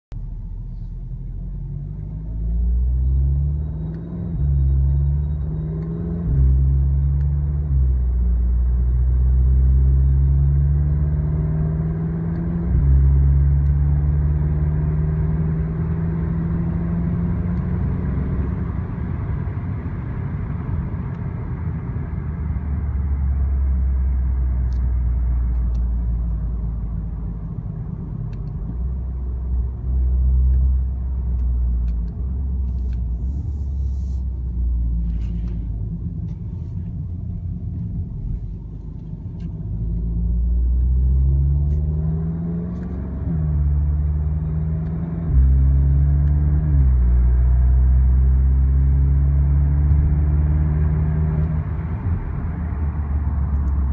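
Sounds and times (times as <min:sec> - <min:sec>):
car engine and exhaust from cabin: 0:00.1 - 0:53.9.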